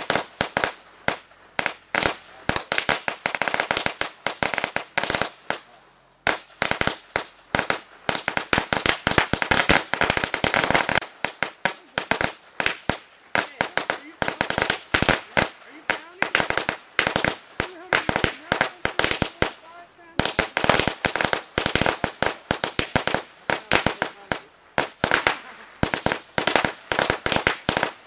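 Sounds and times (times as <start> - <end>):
firecrackers banging rapidly: 0.0 - 28.0.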